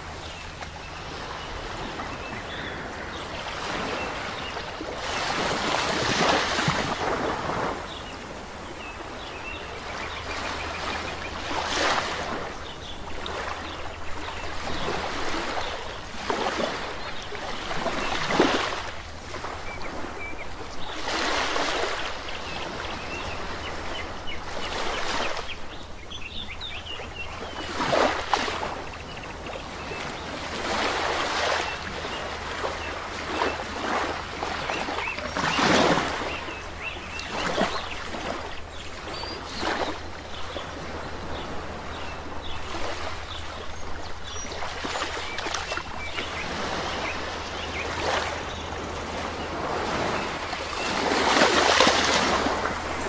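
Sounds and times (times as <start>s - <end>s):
sea waves washing onto shore: 0.0s - 53.0s
small birds chirping: 7.8s - 53.0s.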